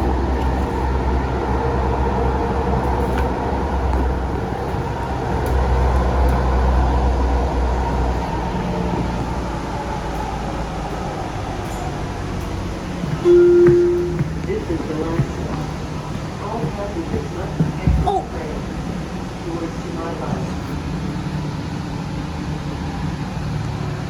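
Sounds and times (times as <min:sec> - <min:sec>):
train motor whine: 0:00.0 - 0:24.0
train rumble on track: 0:00.0 - 0:24.0.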